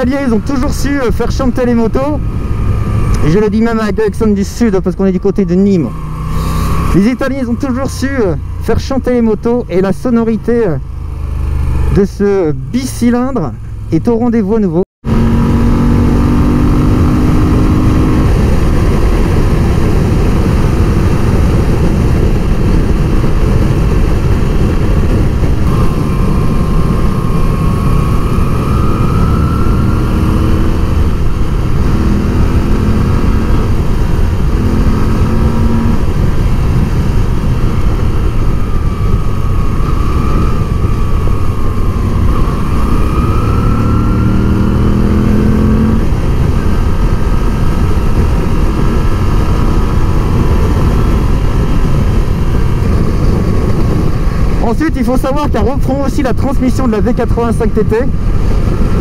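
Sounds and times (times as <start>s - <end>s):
wind rushing over microphone: 0.0s - 14.0s, 15.0s - 59.0s
motorcycle engine running: 0.0s - 14.4s, 15.0s - 54.6s.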